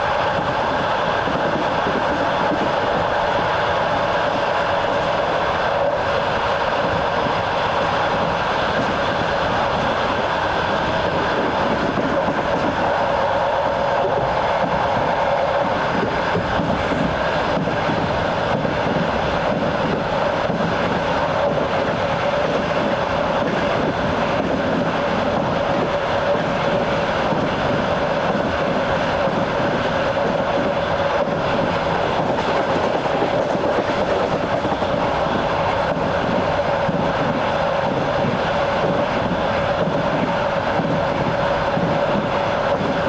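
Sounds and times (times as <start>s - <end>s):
wheel on rail rumble and clatter: 0.0s - 43.0s.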